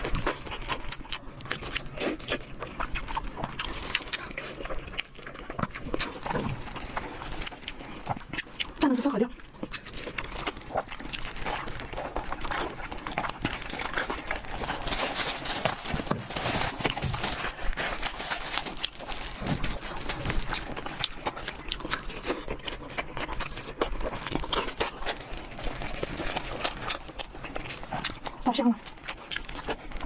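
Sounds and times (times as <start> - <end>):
chewing and mouth smacks: 0.0 - 30.0.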